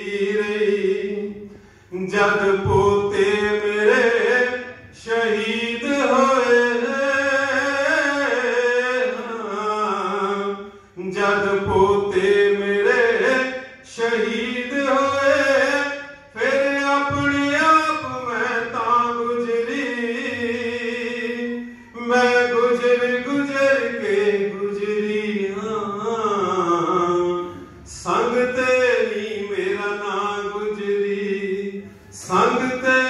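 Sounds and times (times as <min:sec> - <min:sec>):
man singing through a microphone: 0:00.0 - 0:33.0.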